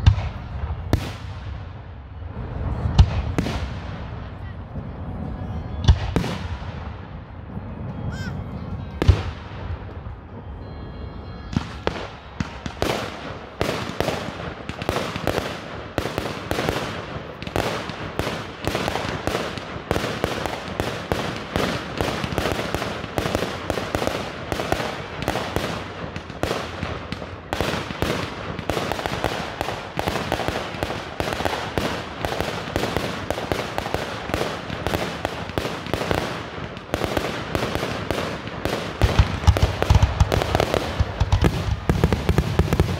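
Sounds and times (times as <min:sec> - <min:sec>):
fireworks booming and crackling: 0:00.0 - 0:42.9.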